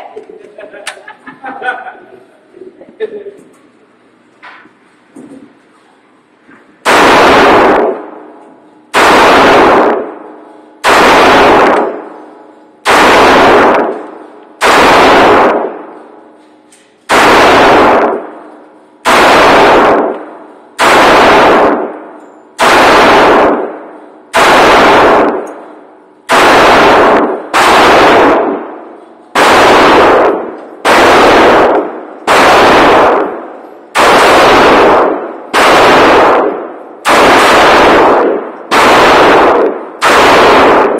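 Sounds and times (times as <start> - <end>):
pistol shots: 6.8 - 40.9.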